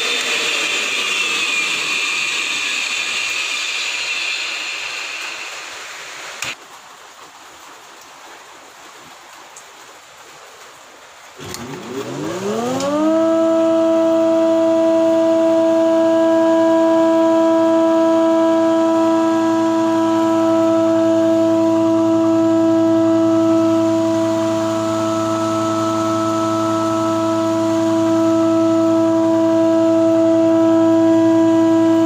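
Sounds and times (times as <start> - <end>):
wood planer motor whine: 0.0 - 6.6, 11.4 - 32.0.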